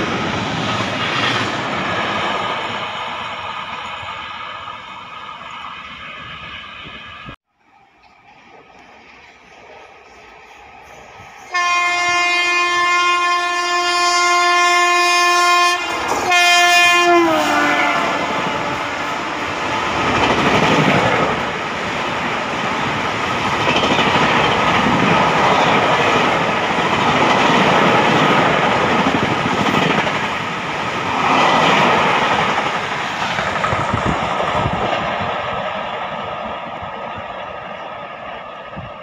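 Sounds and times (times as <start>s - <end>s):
passenger train rushing past: 0.0s - 39.0s.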